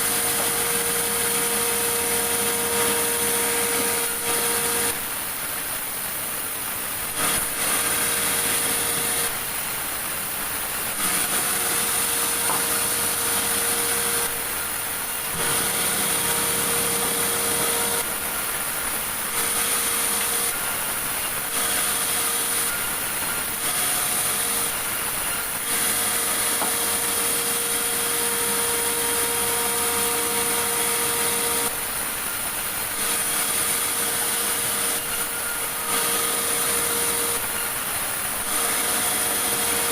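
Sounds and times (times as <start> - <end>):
sawmill saw cutting logs: 0.0 - 39.9.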